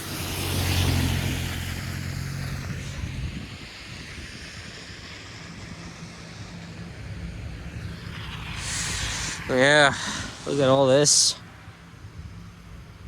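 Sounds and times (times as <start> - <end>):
traffic hiss: 0.0 - 13.0
vehicle passing on wet street: 0.0 - 13.0
wind noise: 0.0 - 13.0.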